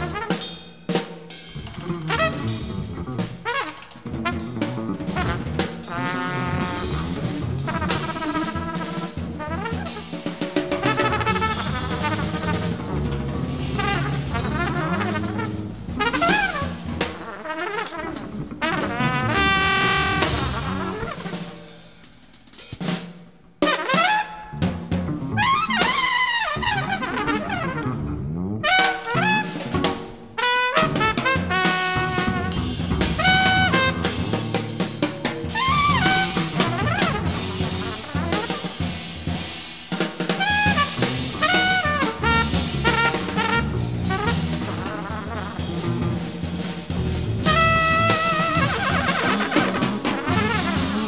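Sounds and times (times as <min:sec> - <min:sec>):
bass: 0:00.0 - 0:51.0
drum kit: 0:00.0 - 0:51.0
trumpet playing sliding phrases: 0:02.1 - 0:10.1, 0:10.8 - 0:21.6, 0:23.6 - 0:24.6, 0:25.3 - 0:28.0, 0:28.6 - 0:34.5, 0:35.5 - 0:38.8, 0:40.4 - 0:46.2, 0:47.2 - 0:51.0.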